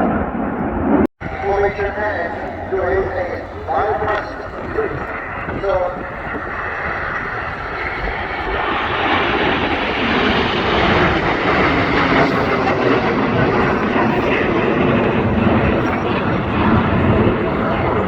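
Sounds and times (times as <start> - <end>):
jet aircraft roar: 0.0 - 18.0.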